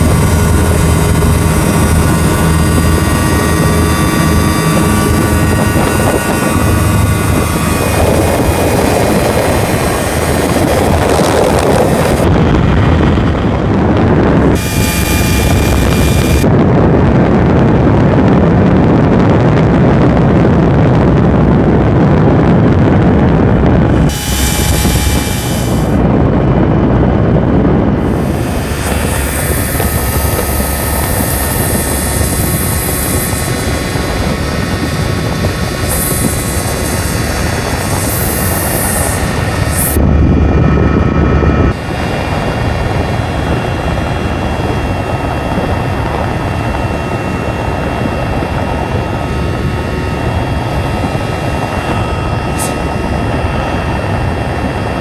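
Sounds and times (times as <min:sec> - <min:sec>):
microlight engine and propeller: 0:00.0 - 0:55.0
wind rushing past microphone: 0:00.0 - 0:55.0.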